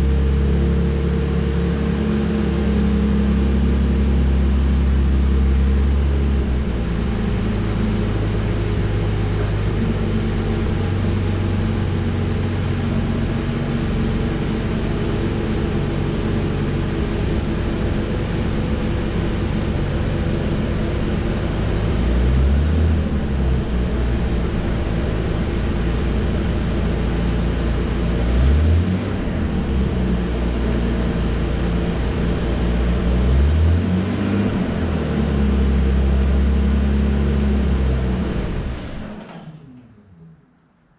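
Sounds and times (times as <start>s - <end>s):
car engine idling and revving: 0.0s - 40.2s.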